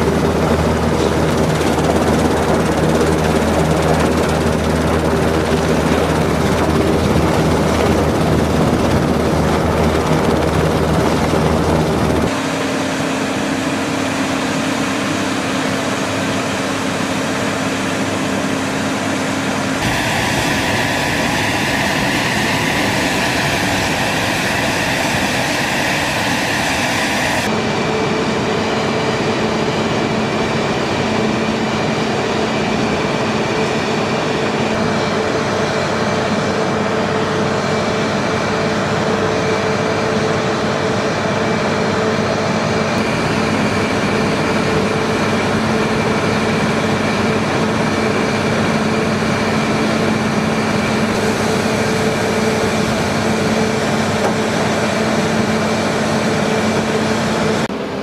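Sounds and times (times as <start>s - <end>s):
machinery hum with high whine: 0.0s - 58.0s.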